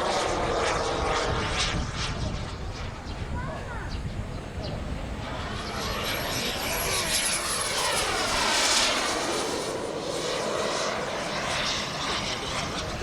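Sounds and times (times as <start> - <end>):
model jet turbine whine passing: 0.0 - 13.0.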